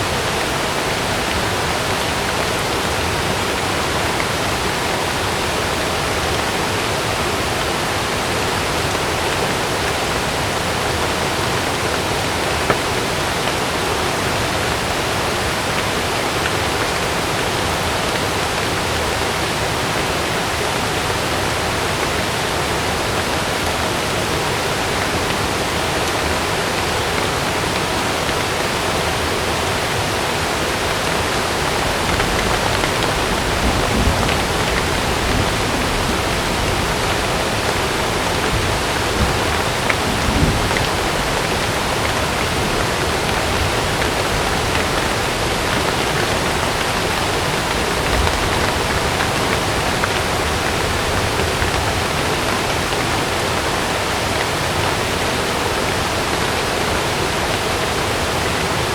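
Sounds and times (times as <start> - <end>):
heavy rain on a tent: 0.0 - 58.9.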